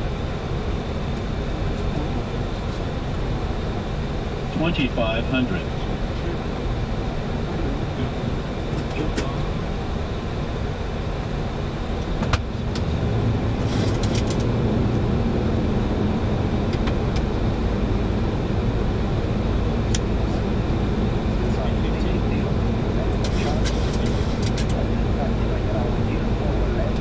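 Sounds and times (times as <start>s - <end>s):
aircraft engines and air rumble: 0.0s - 27.0s.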